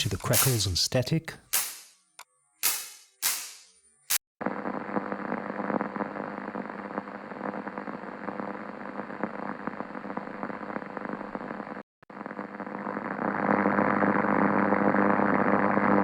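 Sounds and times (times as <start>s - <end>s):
electrical static crackle: 2.6s - 16.0s.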